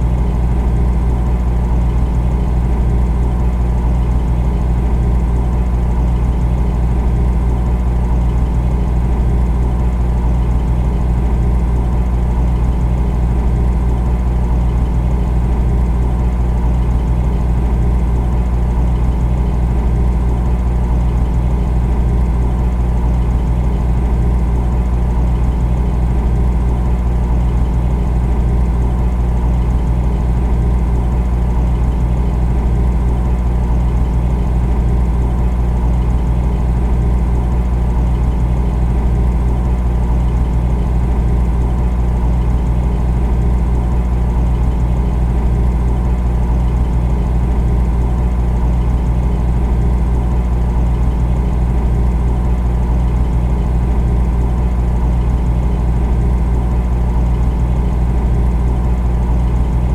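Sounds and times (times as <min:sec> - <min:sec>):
refrigerator humming: 0:00.0 - 0:59.9.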